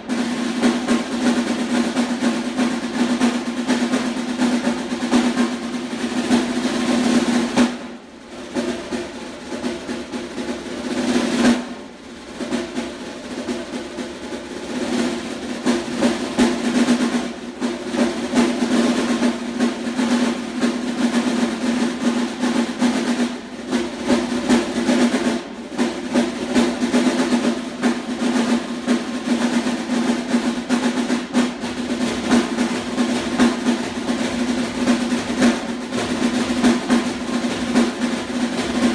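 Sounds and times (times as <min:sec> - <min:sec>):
snare drum rolls: 0:00.0 - 0:38.9.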